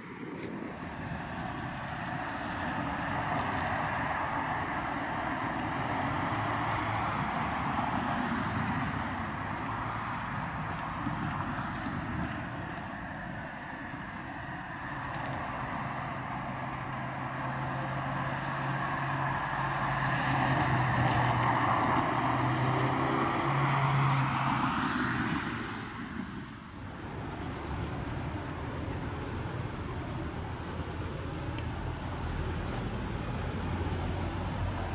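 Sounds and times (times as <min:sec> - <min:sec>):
vehicle passing by: 0:00.1 - 0:34.9.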